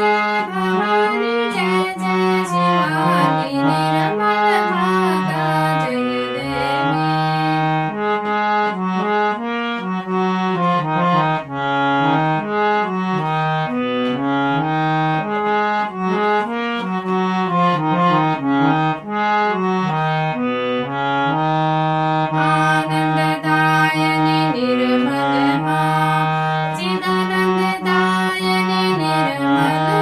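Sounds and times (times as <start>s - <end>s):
harmonium melody over drone notes: 0.0s - 30.0s.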